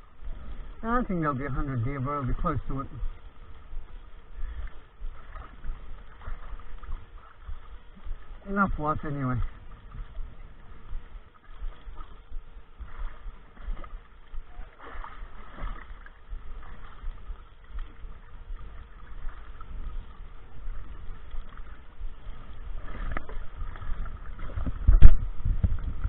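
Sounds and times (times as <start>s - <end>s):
steady low rumble: 0.0s - 26.0s
water against boat hull: 0.0s - 26.0s.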